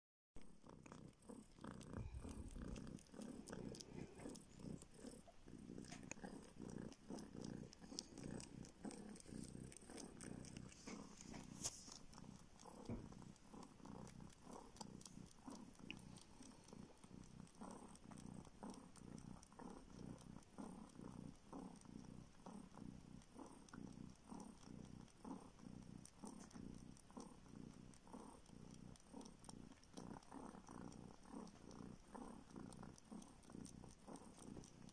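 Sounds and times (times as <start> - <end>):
kitten purring: 0.4 - 34.9.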